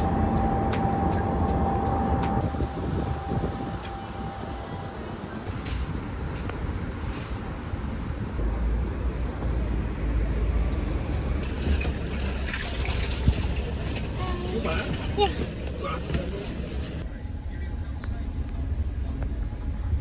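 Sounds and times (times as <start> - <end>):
street traffic: 0.0 - 20.0
vehicle engine rumble: 0.0 - 20.0.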